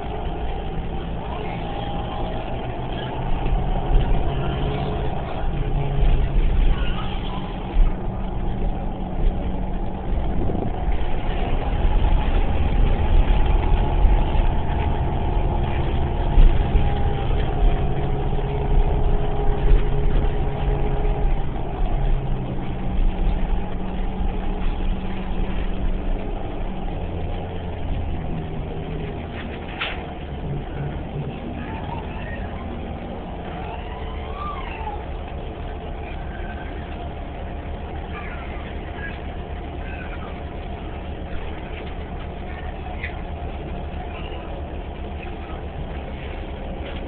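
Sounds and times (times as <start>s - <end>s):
bus engine rumble: 0.0s - 47.0s
wandering high whine: 0.0s - 47.0s.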